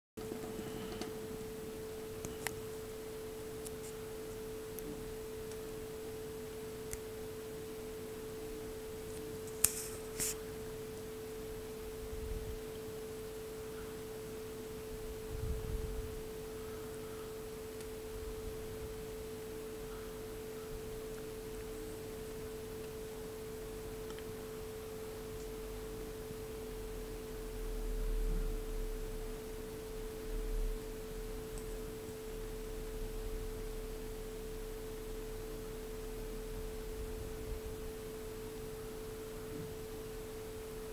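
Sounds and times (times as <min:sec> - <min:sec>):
steady hum: 0:00.2 - 0:40.9.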